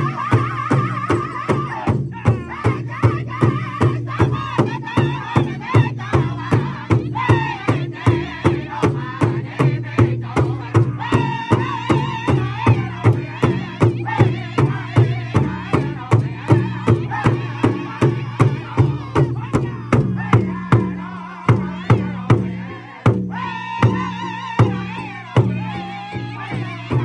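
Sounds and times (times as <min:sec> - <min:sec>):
group singing: 0:00.0 - 0:27.0
large hand drum beating: 0:00.0 - 0:27.0.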